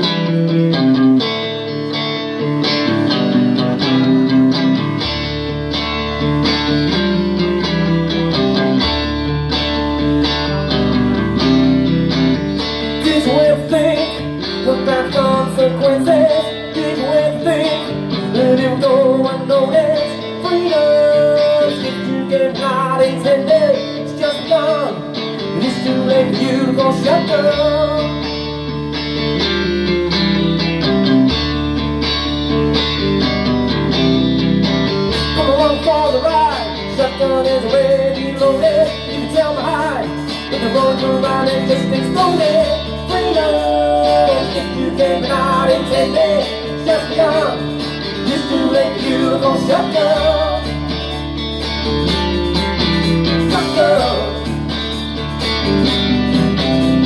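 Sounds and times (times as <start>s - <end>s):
lead guitar bending notes: 0.0s - 57.0s
live blues band playing: 0.0s - 57.0s.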